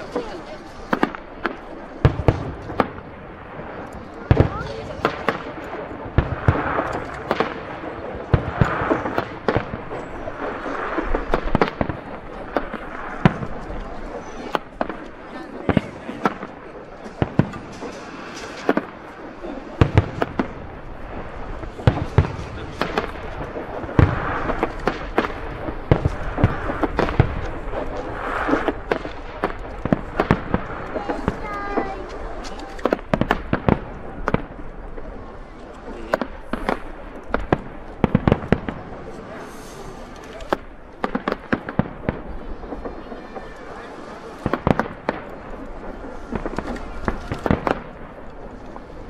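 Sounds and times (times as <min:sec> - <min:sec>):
firework hiss: 0:00.0 - 0:49.0
firework shells bursting: 0:00.0 - 0:49.0.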